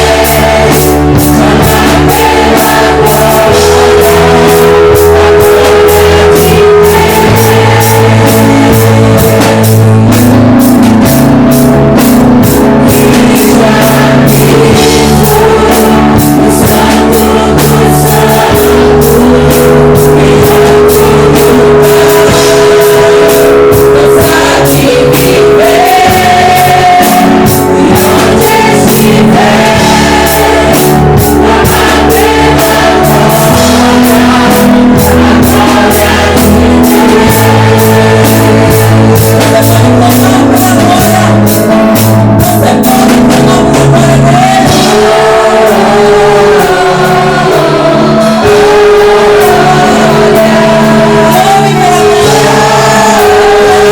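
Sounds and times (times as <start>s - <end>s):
drum kit: 0.0s - 53.9s
guitar: 0.0s - 53.9s
people singing: 0.0s - 53.9s
sustained chords: 0.0s - 53.9s.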